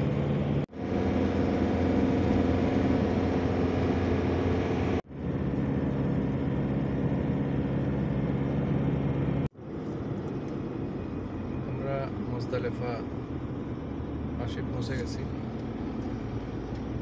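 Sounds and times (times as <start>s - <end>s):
car engine hum and road noise: 0.0s - 17.0s.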